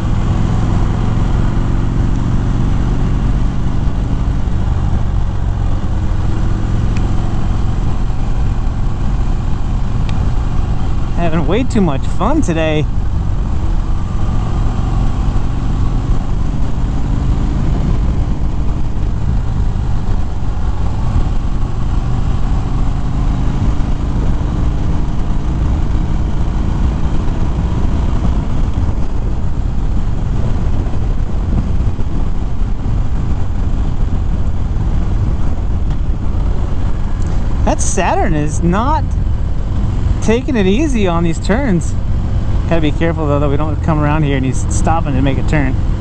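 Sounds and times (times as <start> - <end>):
motorcycle engine running: 0.0 - 46.0
wind rush on microphone: 0.0 - 46.0.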